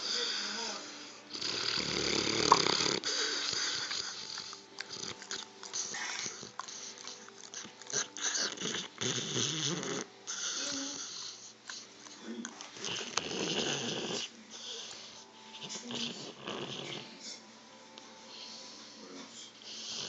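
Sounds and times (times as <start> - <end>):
dog snoring: 0.0 - 17.5, 18.3 - 20.0.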